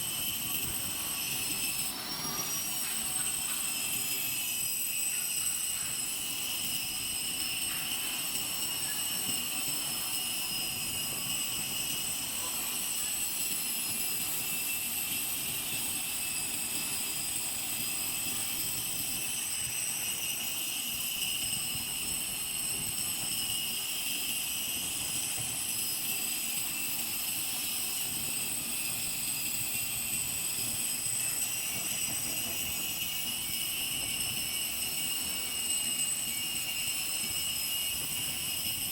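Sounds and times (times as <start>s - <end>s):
grinder whining on a lathe: 0.0s - 38.9s.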